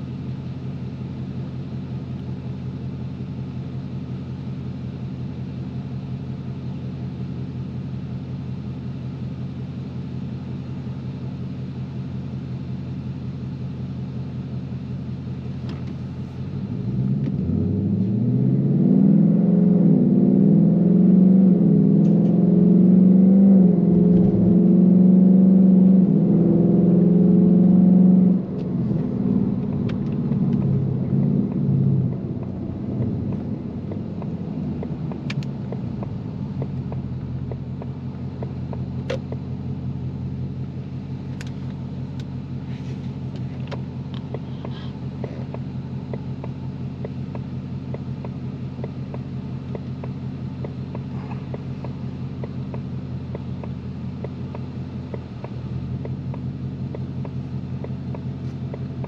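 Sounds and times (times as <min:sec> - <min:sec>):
car engine accelerating: 0:00.0 - 0:59.0
engine cruising rumble: 0:00.0 - 0:59.0.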